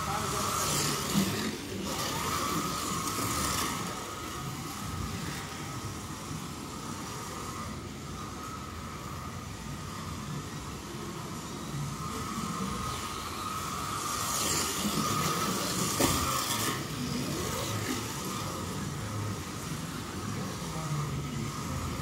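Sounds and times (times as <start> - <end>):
slot car motors whining: 0.0 - 22.0.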